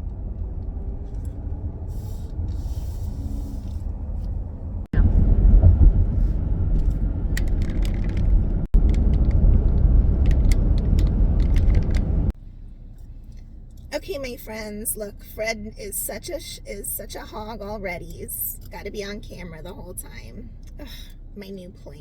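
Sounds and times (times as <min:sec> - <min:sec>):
minivan road and engine rumble: 0:00.0 - 0:22.0.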